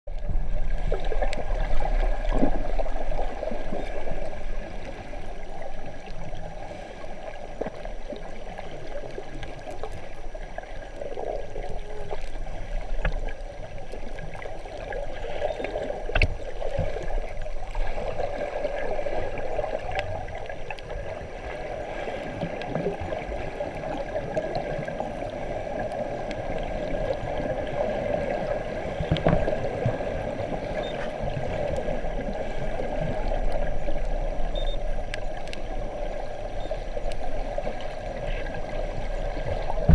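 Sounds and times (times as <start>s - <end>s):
muffled underwater gurgling rush: 0.1s - 39.9s.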